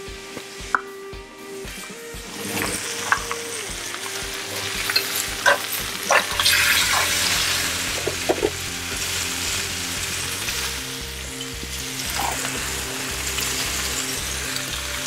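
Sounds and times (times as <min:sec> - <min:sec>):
faint background music: 0:00.0 - 0:15.0
chicken sizzling in a skillet: 0:02.2 - 0:15.0.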